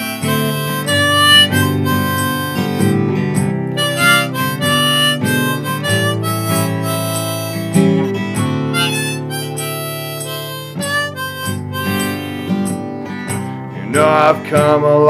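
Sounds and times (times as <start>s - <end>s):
harmonica melody: 0.0s - 14.6s
strummed acoustic guitar: 0.0s - 15.0s.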